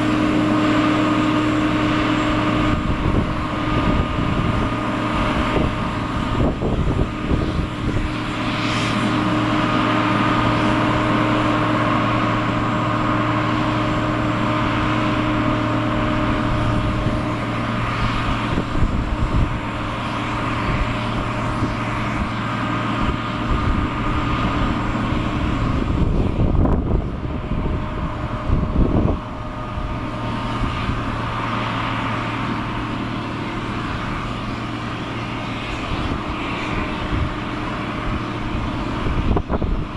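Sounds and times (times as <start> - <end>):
jet engines whining: 0.0 - 39.9
low rumbles: 0.0 - 39.9.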